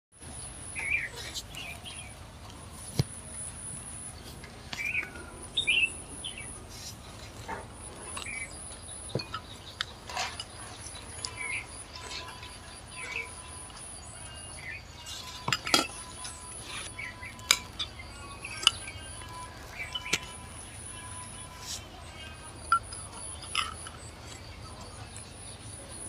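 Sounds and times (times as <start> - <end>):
small birds chirping: 0.2 - 26.0.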